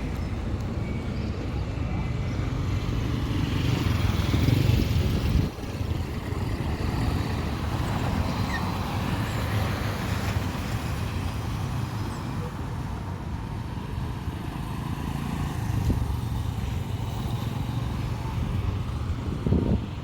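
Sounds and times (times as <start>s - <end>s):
street traffic: 0.0s - 20.0s
vehicle engine rumble: 0.0s - 20.0s.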